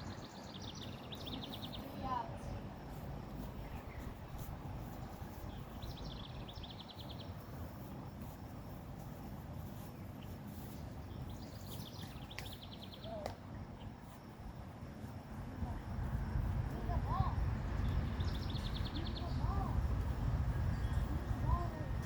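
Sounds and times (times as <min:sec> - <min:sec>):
steady low rumble: 0:00.0 - 0:12.3, 0:13.5 - 0:22.0.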